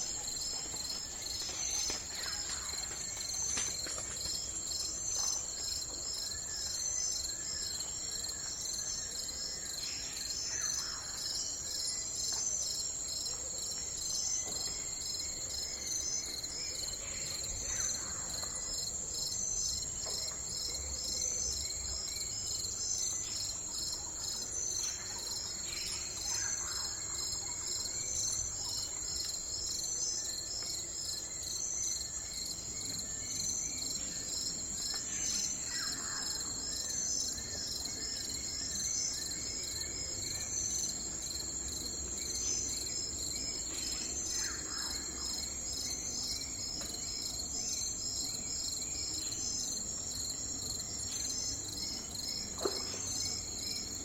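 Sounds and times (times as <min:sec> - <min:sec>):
crickets trilling: 0:00.0 - 0:13.3, 0:14.0 - 0:54.0.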